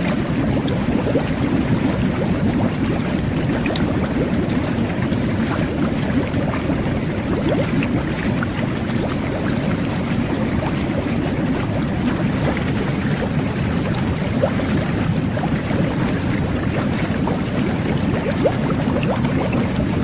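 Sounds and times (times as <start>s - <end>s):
small bubbles popping: 0.0s - 20.0s
water jets bubbling: 0.0s - 20.0s.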